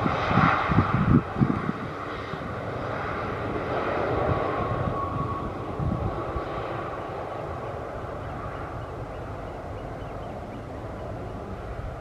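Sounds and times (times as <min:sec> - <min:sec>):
aircraft low rumble: 0:00.0 - 0:12.0
jet engine whine: 0:00.0 - 0:12.0.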